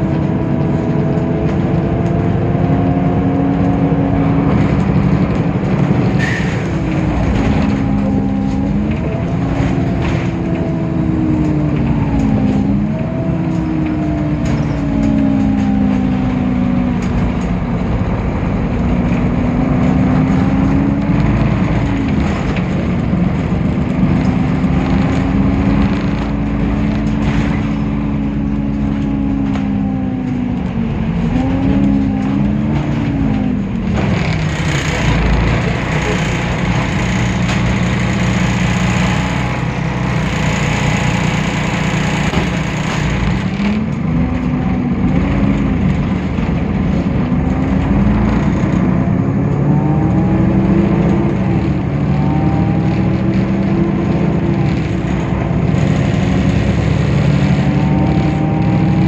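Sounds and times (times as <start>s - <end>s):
bus engine rumbling: 0.0s - 59.0s
gearbox droning whine: 0.0s - 59.0s.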